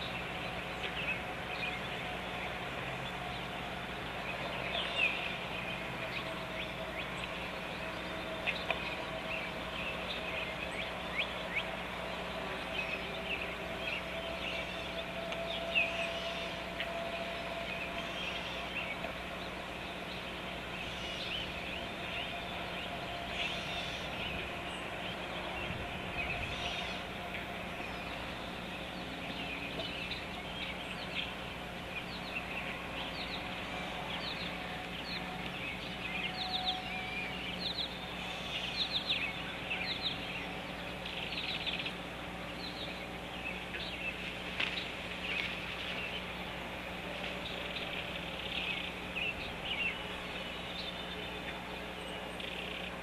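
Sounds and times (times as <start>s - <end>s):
birds chirping: 0.0s - 53.0s
low steady hum: 0.0s - 53.0s
steady outdoor noise: 0.0s - 53.0s.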